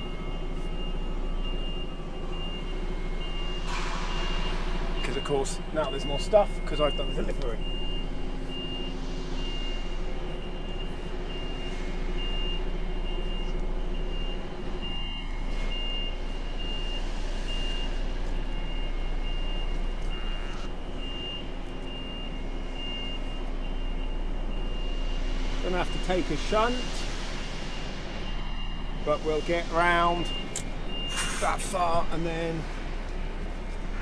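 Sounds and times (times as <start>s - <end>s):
reversing alarm beeping: 0.0s - 32.8s
diesel truck engine idling: 0.0s - 34.0s.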